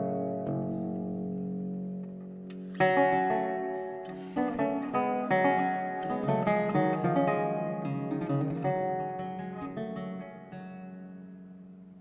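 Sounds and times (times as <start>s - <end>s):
lute plucked notes and chords: 0.0s - 12.0s.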